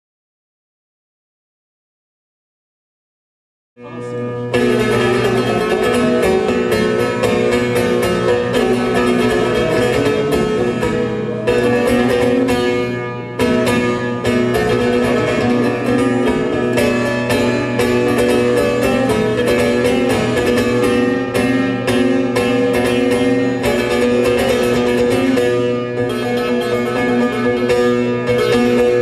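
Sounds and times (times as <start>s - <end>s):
long-necked lute plucked: 3.8s - 29.0s.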